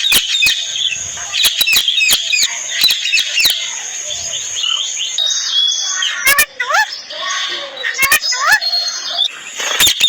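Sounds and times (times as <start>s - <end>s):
parrot chirping: 0.0s - 10.0s.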